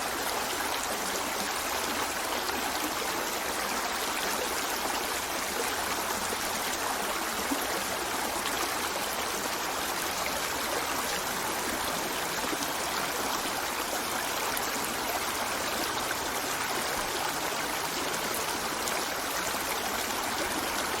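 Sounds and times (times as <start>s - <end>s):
river flowing over stones: 0.0s - 21.0s.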